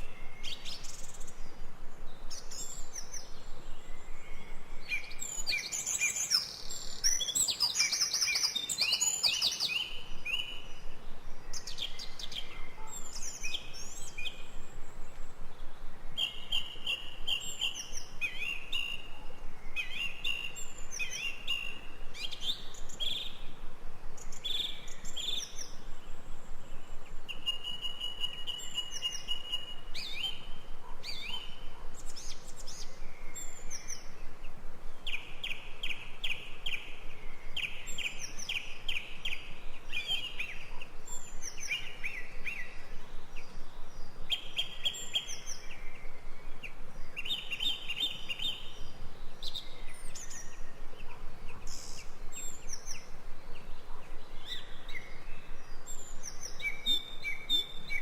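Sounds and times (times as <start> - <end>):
faint steady hiss: 0.0 - 58.0
wild birds chirping and singing: 0.0 - 58.0.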